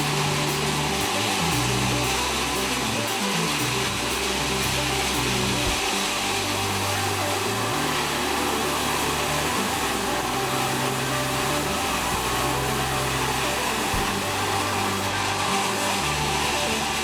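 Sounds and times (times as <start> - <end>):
background music with bass: 0.0 - 17.0
sawmill saw cutting wood: 0.0 - 17.0.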